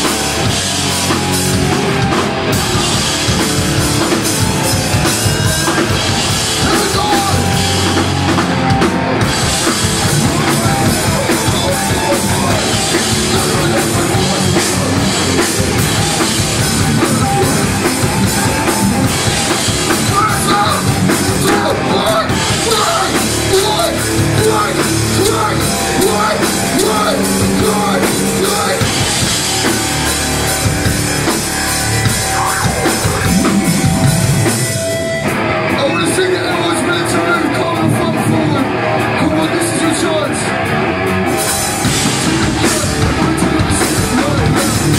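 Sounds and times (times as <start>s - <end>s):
bass guitar: 0.0s - 44.9s
drum kit: 0.0s - 44.9s
electric guitars: 0.0s - 44.9s.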